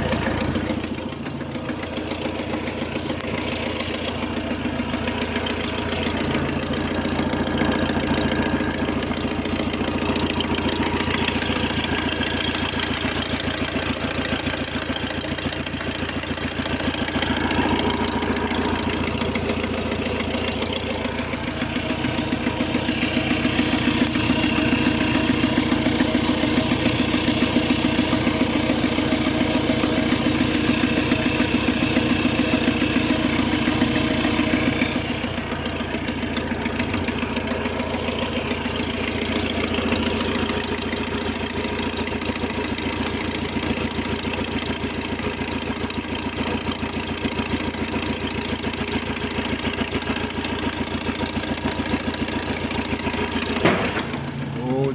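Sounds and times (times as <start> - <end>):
car engine idling with pulsing: 0.0 - 54.9.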